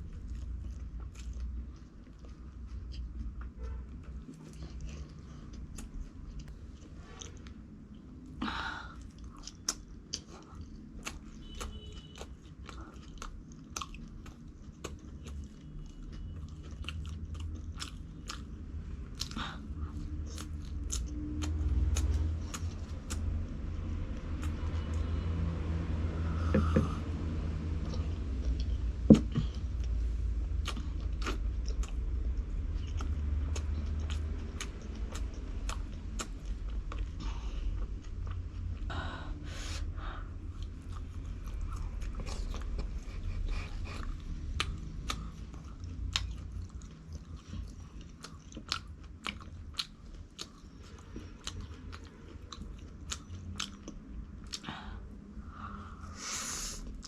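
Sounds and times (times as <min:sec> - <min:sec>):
chewing crunchy food: 0:00.0 - 0:38.9, 0:40.4 - 0:55.4
low background rumble: 0:00.0 - 0:57.0.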